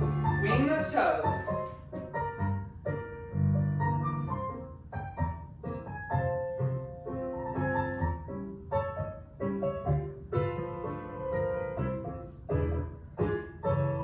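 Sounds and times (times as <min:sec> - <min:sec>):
jazz piano accompaniment: 0:00.0 - 0:14.0.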